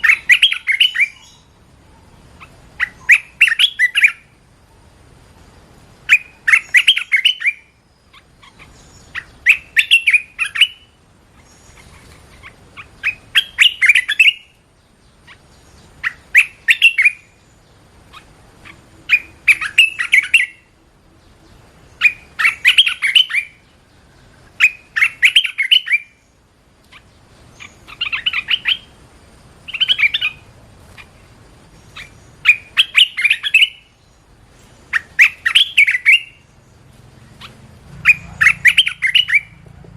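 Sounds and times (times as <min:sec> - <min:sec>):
bird singing chirpy phrases: 0:00.0 - 0:39.6.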